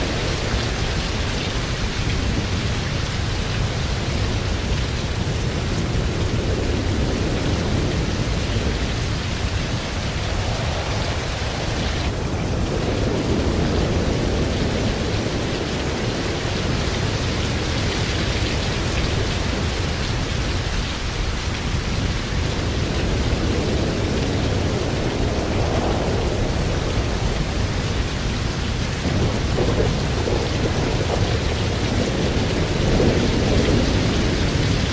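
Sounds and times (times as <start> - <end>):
heavy rain: 0.0 - 34.9
strong gusting wind: 0.0 - 34.9
wind rumble on microphone: 0.0 - 34.9.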